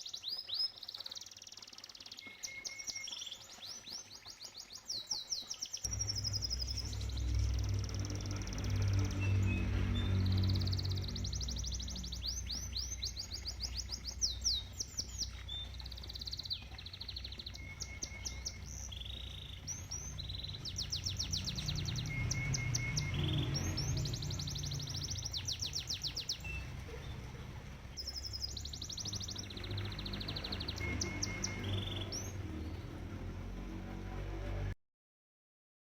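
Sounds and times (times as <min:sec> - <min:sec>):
canary singing in trills: 0:00.0 - 0:34.3
flowing pond water: 0:00.0 - 0:34.7.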